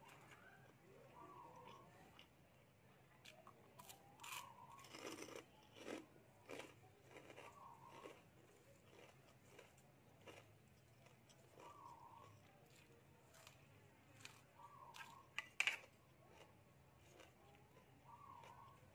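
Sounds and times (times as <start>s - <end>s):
crunching of food being chewed: 0.0s - 2.4s, 3.2s - 18.9s.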